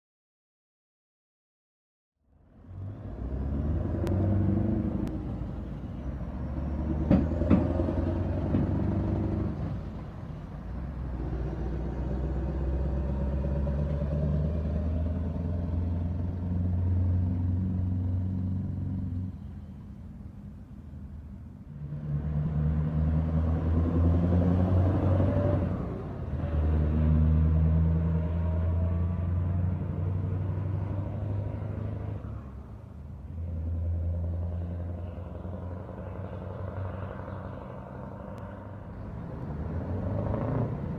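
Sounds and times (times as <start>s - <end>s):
truck engines driving past: 2.2s - 40.9s.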